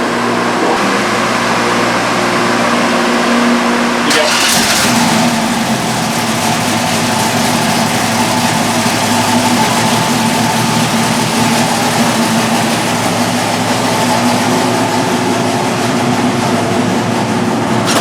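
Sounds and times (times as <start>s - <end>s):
engine running on a dyno: 0.0s - 18.0s.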